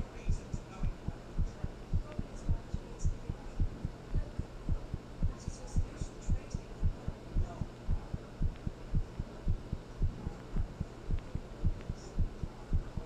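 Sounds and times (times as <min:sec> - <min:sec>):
heartbeat thuds: 0:00.0 - 0:13.0
steady low hum: 0:00.0 - 0:13.0.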